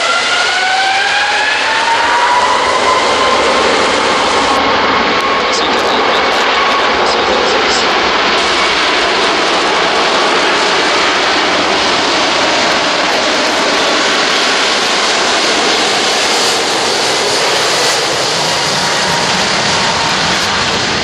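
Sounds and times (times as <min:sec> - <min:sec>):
jet engines roaring at takeoff: 0:00.0 - 0:21.0.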